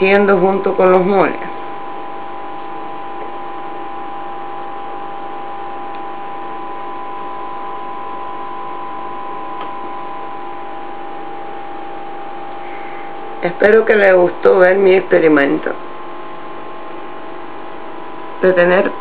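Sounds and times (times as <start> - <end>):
aquarium equipment humming: 0.0 - 19.0.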